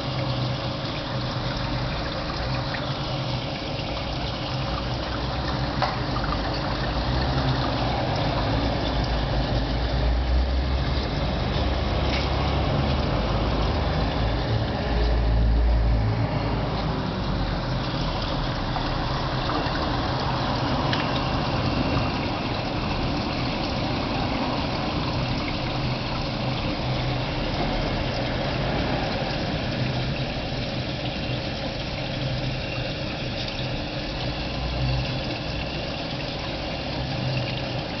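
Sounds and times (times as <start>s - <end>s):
pump motor hum: 0.0s - 38.0s
water bubbling and trickling: 0.0s - 38.0s.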